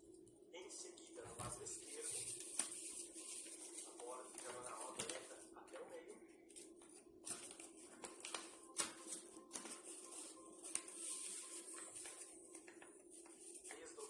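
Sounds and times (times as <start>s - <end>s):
paper rustling and crinkling: 1.3s - 14.0s.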